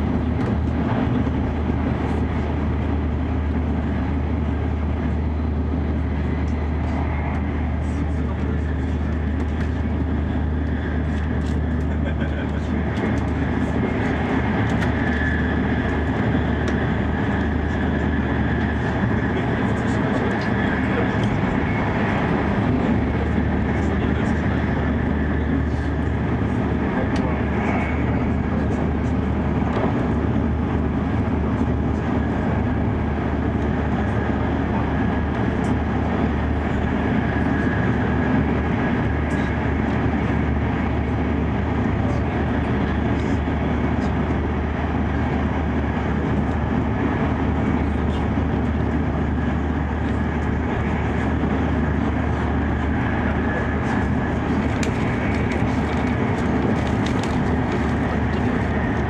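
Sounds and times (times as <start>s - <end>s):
train cabin rumble and rushing hiss: 0.0s - 59.0s.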